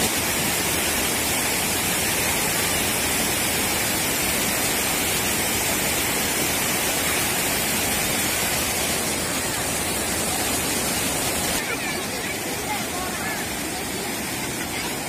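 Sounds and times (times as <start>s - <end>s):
water rushing over weir: 0.0s - 15.0s.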